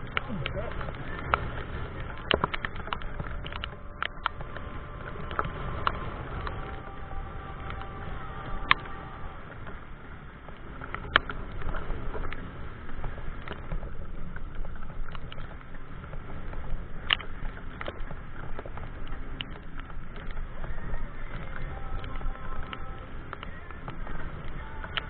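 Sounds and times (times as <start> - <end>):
small ticks: 0.0 - 9.8, 10.5 - 25.0
low rumble: 0.0 - 25.0
pouring rain pattering: 0.0 - 25.0.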